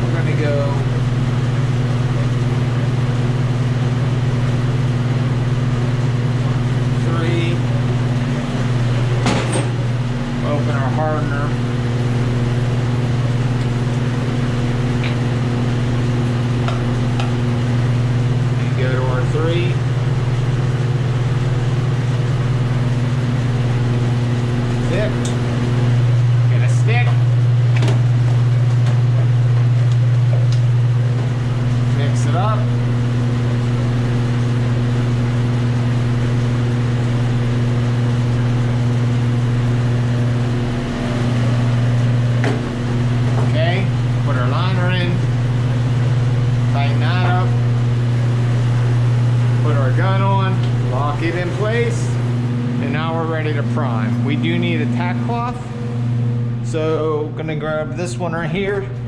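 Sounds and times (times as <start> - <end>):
electric machine hum: 0.0 - 59.0.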